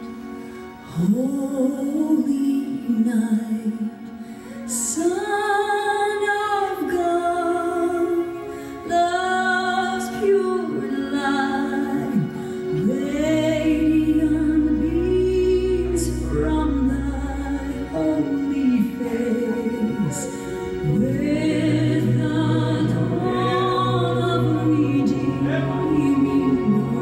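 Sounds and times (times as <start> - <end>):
woman singing: 0.8 - 27.0.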